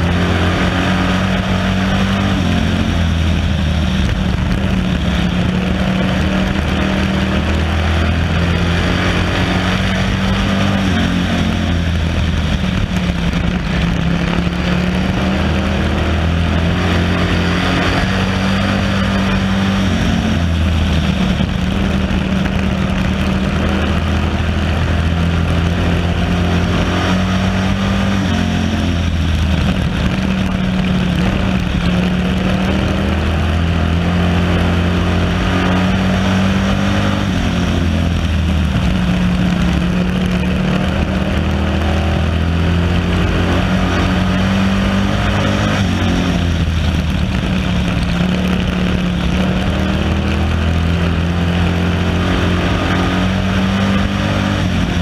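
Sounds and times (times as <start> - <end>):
other race cars: 0.0 - 55.0
race car engine running hard: 0.0 - 55.0.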